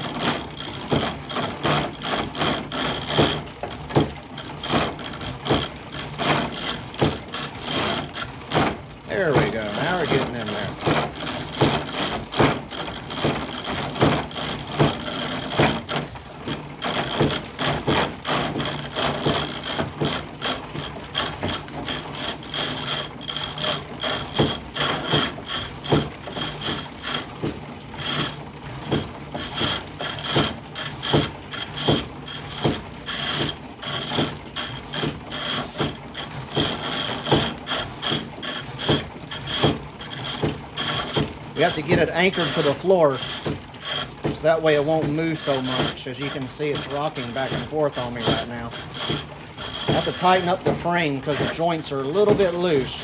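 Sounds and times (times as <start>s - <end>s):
hand tool scraping spinning wood: 0.0s - 53.0s
rhythmic treadle knocking: 0.0s - 53.0s
wood lathe running: 0.0s - 53.0s.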